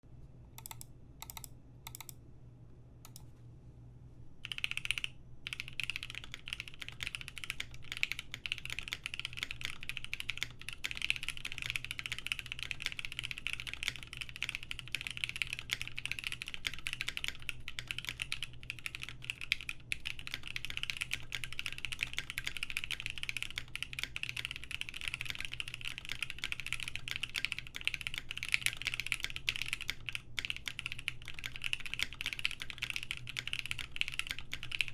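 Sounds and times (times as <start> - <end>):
mechanical keyboard typing: 0.6 - 2.2, 4.4 - 34.9.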